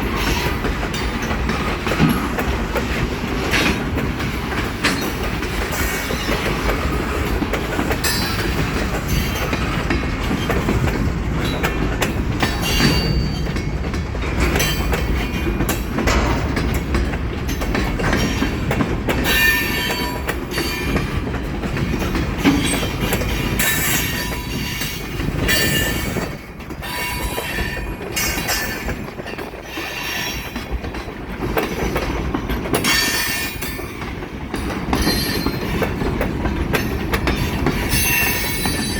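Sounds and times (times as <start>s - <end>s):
train wheels rumbling: 0.0s - 38.9s
wheels clacking over rail joints: 0.0s - 38.9s.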